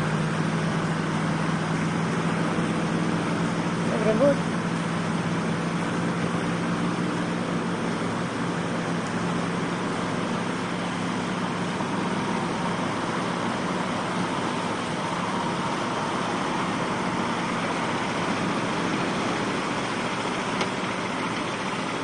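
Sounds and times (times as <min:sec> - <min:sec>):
heavy truck engine running: 0:00.0 - 0:22.0
wind: 0:00.0 - 0:22.0.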